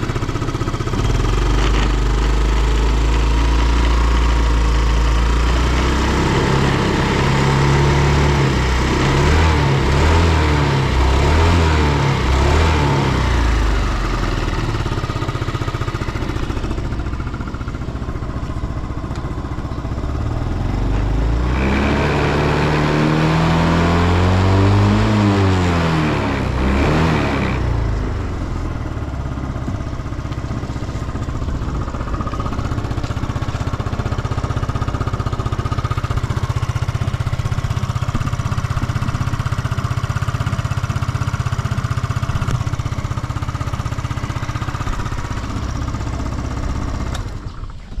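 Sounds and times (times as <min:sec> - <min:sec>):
scooter engine idling: 0:00.0 - 0:48.0.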